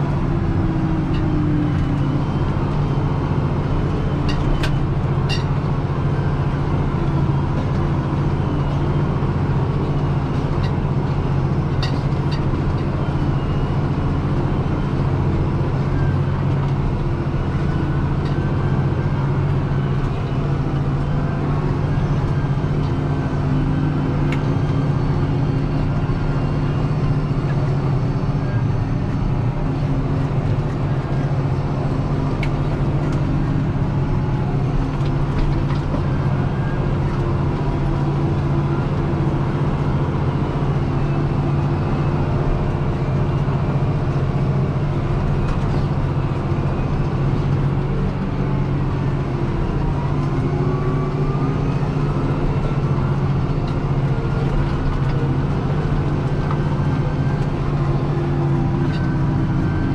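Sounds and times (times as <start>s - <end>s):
tractor engine droning in cab: 0.0s - 59.9s.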